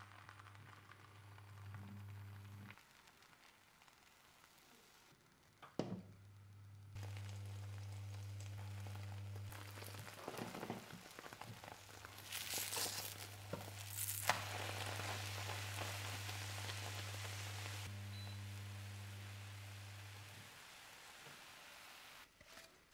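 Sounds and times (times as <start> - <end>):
egg sizzling in a frying pan: 0.0 - 6.0, 6.9 - 22.3
low electrical hum: 0.0 - 22.2.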